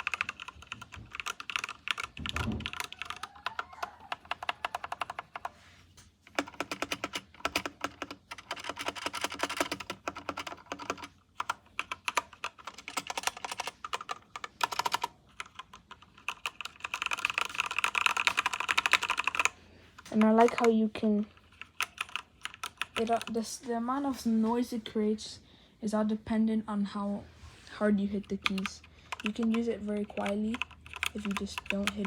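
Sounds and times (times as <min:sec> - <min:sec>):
mechanical keyboard typing: 0:00.0 - 0:05.5, 0:06.2 - 0:23.5, 0:28.1 - 0:32.0.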